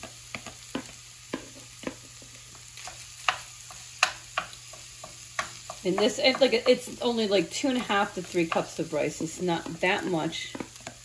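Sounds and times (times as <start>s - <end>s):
faint frying sizzle: 0.0s - 11.0s.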